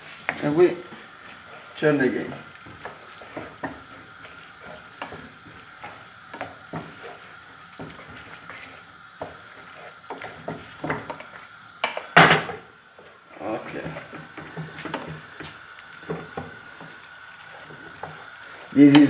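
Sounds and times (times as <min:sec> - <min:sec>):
wooden spoon scraping frying pan: 0:00.0 - 0:19.0.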